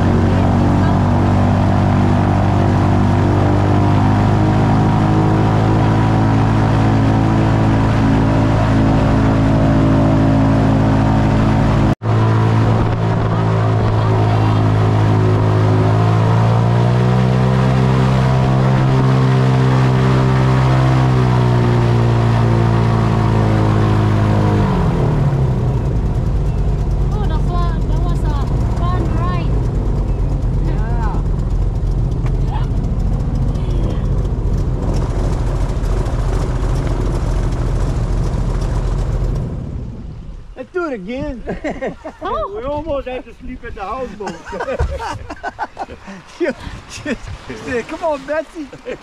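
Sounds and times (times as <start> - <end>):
airboat engine and propeller running: 0.0 - 49.0.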